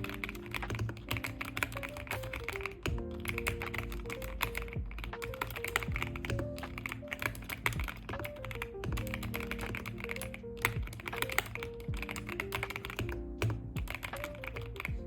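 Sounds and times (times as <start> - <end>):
background music: 0.0 - 15.0
fast mechanical keyboard typing: 0.0 - 15.0.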